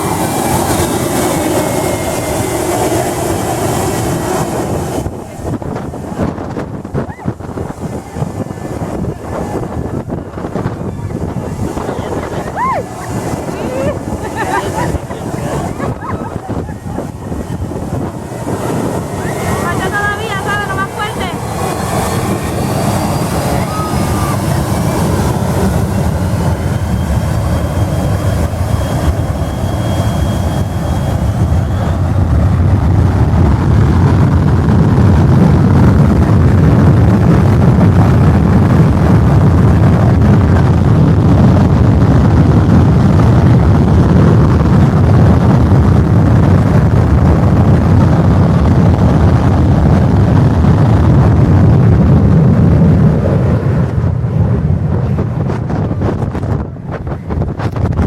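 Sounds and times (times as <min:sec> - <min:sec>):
faint high engine whine: 0:00.0 - 0:51.9
jet engines rumbling: 0:00.0 - 0:58.0.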